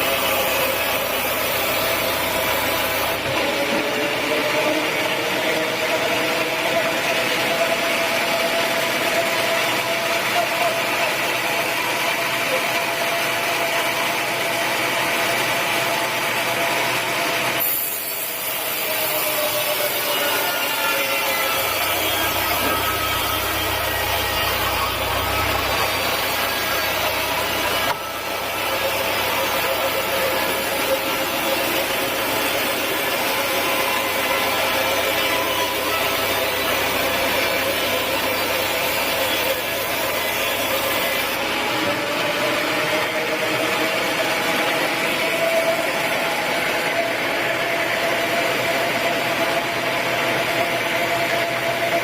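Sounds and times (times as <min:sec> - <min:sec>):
sawmill saw cutting log: 0:00.0 - 0:52.0
whining saw blade: 0:00.0 - 0:52.0.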